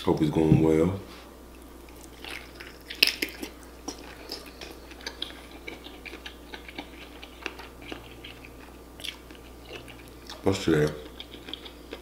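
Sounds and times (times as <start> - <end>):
person chewing with wet clicks: 1.5 - 12.0.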